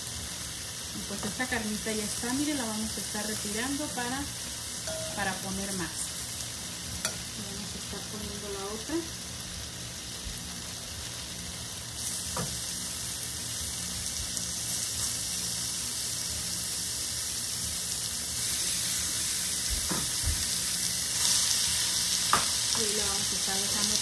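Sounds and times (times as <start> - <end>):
beef sizzling on a grill pan: 0.0 - 24.0.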